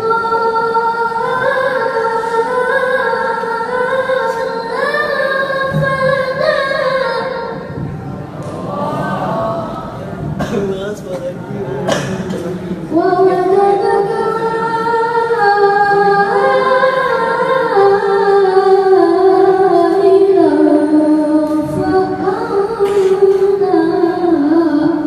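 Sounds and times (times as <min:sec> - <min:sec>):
girl reciting melodically: 0:00.0 - 0:10.6, 0:12.5 - 0:25.0.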